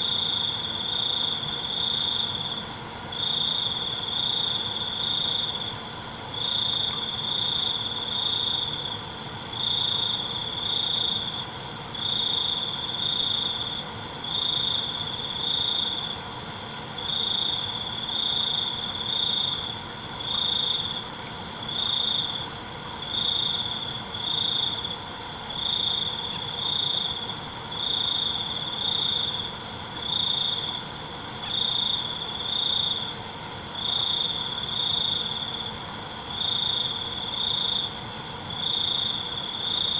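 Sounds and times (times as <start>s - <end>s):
cricket chirping: 0.0s - 39.9s
high-pitched insect chorus: 0.0s - 39.9s.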